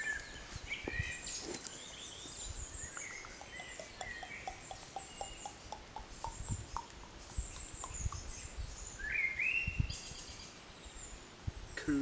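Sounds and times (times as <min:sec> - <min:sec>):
birds singing and calling: 0:00.0 - 0:12.0.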